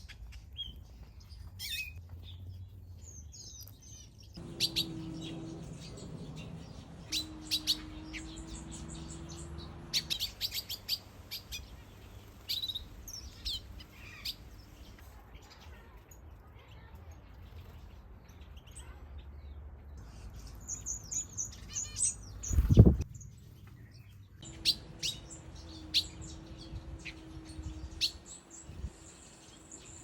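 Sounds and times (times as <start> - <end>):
finches chirping and calling: 0.0 - 2.4, 3.0 - 30.0.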